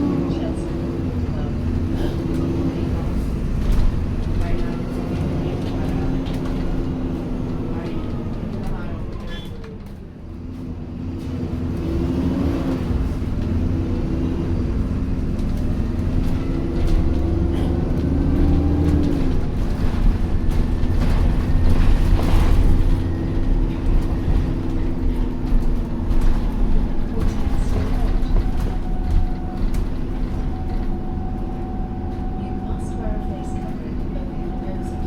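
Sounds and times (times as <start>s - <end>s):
bus engine rumble and whine: 0.0s - 35.0s.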